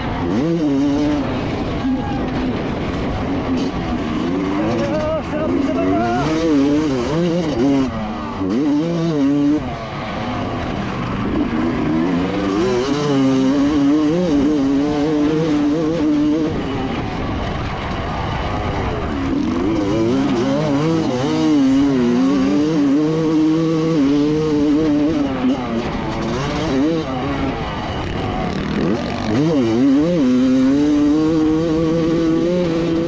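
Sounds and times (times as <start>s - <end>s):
motocross engine revving: 0.0s - 33.0s.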